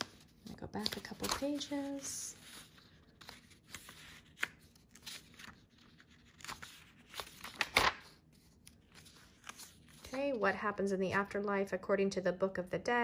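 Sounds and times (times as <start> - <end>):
paper pages turning: 0.0 - 10.5.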